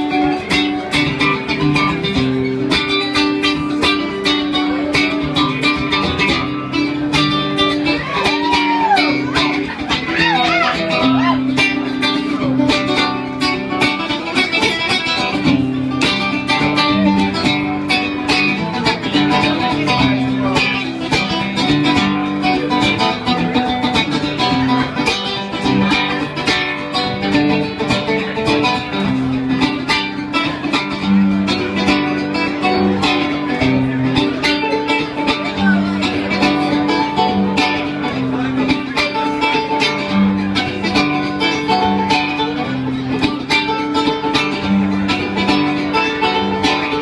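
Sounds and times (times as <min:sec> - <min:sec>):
acoustic guitar picking: 0:00.0 - 0:47.0.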